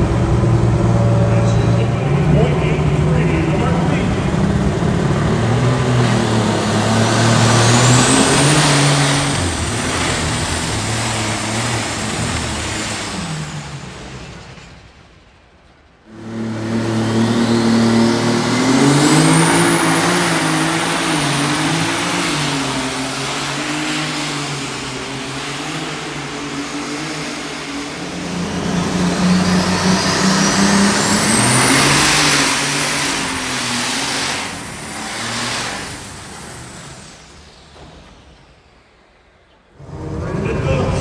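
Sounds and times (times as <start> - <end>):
tractor engine at full throttle: 0.0 - 15.3, 16.0 - 39.0, 39.7 - 41.0.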